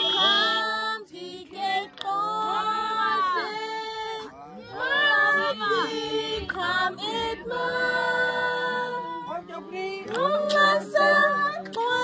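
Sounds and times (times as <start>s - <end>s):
voices singing together: 0.0s - 12.0s.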